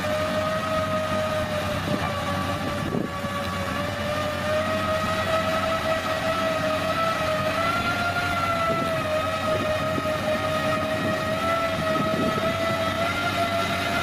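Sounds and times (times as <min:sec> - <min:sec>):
low engine rumble: 0:00.0 - 0:14.0
machine whine: 0:00.0 - 0:14.0.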